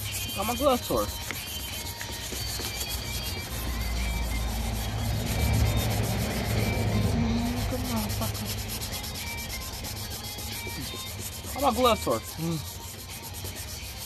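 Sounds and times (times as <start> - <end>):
wet sandpaper rubbing: 0.0 - 14.0.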